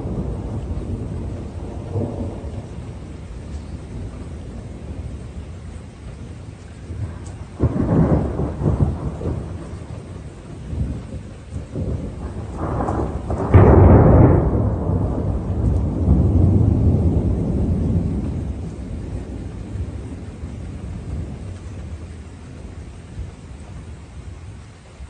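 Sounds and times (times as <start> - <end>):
thunder rumbling: 0.0 - 25.0.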